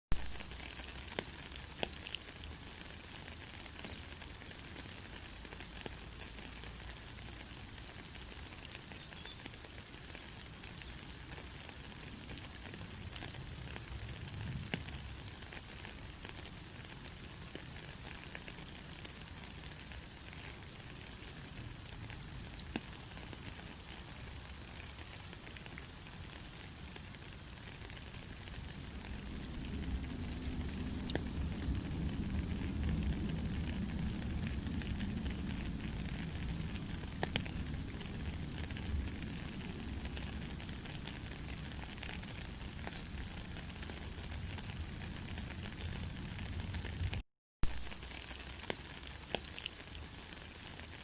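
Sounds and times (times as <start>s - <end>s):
faint crackles and clicks: 0.1s - 51.0s.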